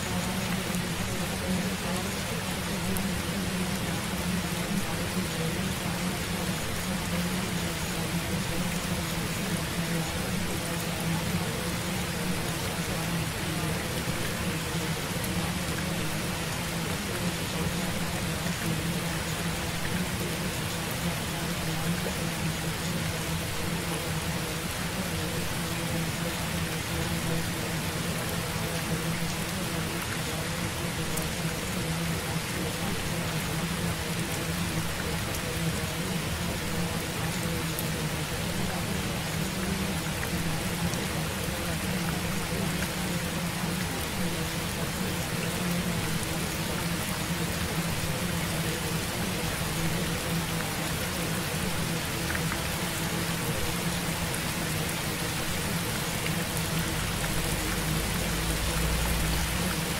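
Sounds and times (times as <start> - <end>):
rain-like hiss: 0.0 - 59.9.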